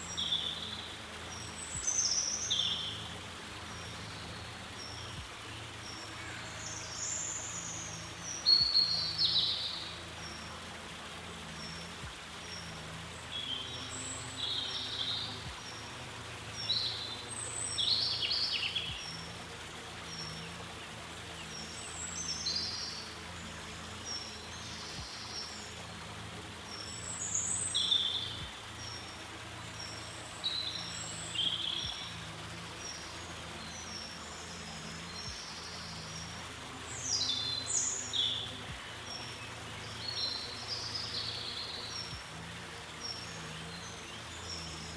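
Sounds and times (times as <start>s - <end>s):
songbirds singing: 0.0s - 44.9s
steady outdoor hiss: 0.0s - 44.9s.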